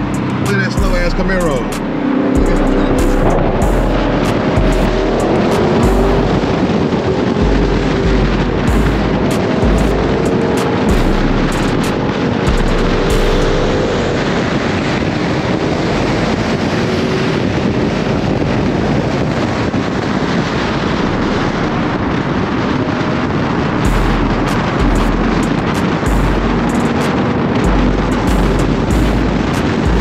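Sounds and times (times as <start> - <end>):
car engine accelerating: 0.0 - 30.0
wind buffeting microphone: 0.0 - 30.0.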